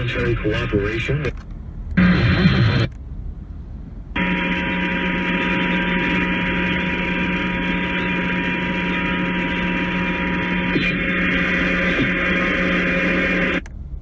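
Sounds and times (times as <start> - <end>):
radio hiss: 0.0 - 1.4, 2.0 - 3.0, 4.2 - 13.7
low electrical hum: 0.0 - 14.0.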